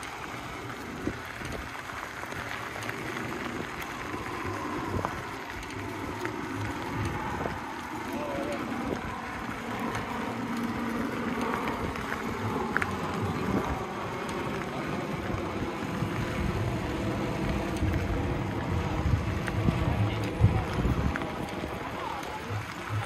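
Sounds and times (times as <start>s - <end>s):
bicycle tyres on gravel: 0.0s - 23.0s
bike rattles and clicks: 0.0s - 23.0s.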